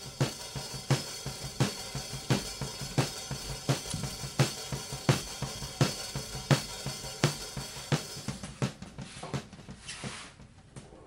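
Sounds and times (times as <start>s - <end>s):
drum kit beat: 0.0s - 11.0s.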